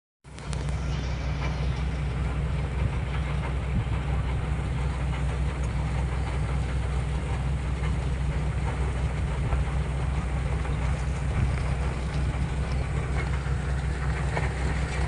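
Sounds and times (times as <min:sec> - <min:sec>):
combine harvester engine rumbling: 0:00.2 - 0:15.0.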